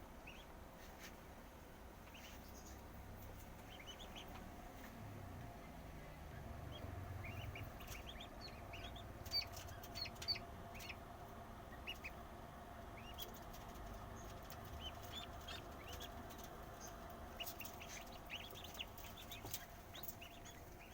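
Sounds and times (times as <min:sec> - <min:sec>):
faint incubator hum: 0:00.0 - 0:20.9
chicks peeping: 0:00.2 - 0:01.1, 0:02.0 - 0:05.0, 0:06.0 - 0:20.9.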